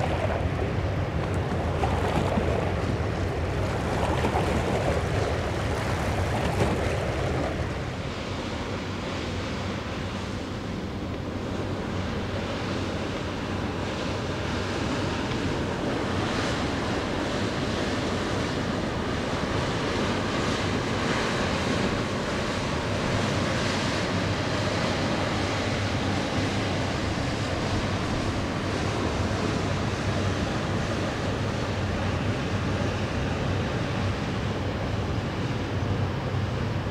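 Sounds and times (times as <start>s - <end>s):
low ship machinery hum: 0.0s - 36.9s
wind on microphone: 0.0s - 36.9s.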